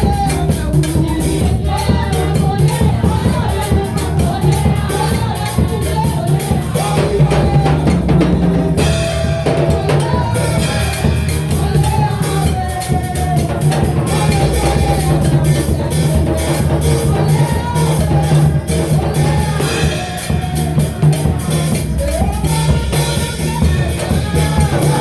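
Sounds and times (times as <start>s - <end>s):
band playing worship music: 0.0s - 25.0s
drum kit beat: 0.0s - 25.0s.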